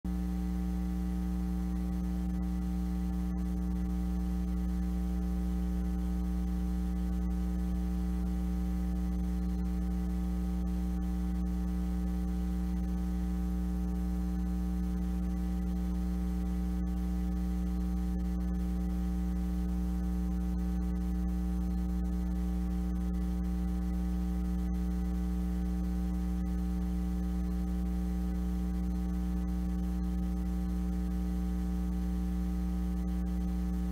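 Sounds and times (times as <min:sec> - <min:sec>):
electrical mains hum: 0:00.1 - 0:33.9.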